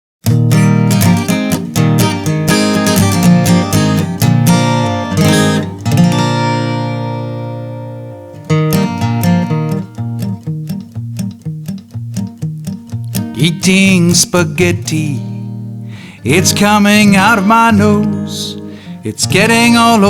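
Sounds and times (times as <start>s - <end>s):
strummed acoustic guitar music: 0.2s - 20.0s.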